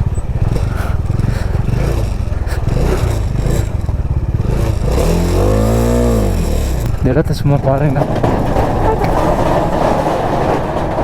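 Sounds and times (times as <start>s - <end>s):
clattering and scraping on rough road: 0.0s - 11.0s
motorcycle engine revving: 0.0s - 11.0s.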